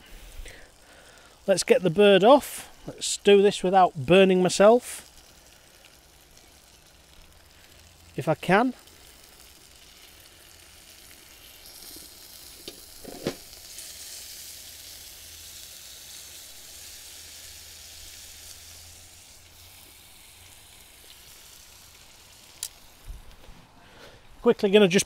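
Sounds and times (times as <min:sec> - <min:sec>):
fat sizzling on a grill: 0:00.0 - 0:25.0.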